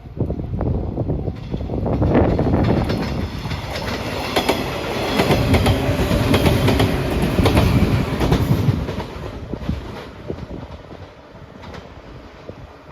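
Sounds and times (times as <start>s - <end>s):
train wheels clattering over rails: 1.3s - 12.0s.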